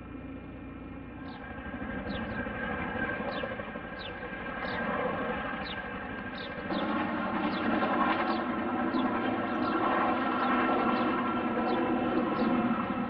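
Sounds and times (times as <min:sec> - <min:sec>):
aircraft engine: 0:00.0 - 0:13.0.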